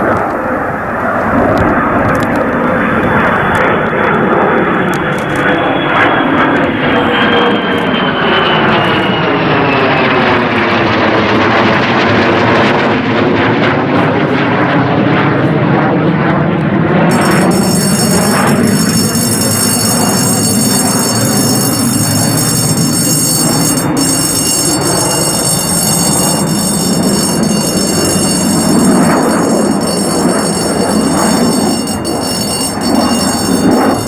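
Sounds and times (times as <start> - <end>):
jet engine roaring: 0.0 - 34.0.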